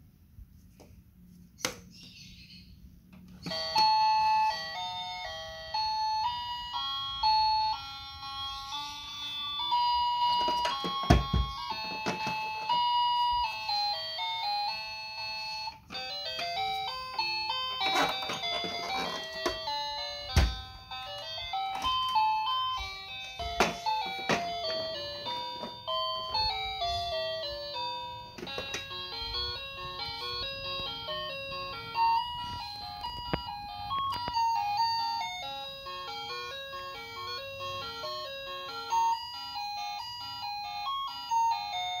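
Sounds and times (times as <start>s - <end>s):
toy beeping electronic melodies: 3.3s - 42.0s.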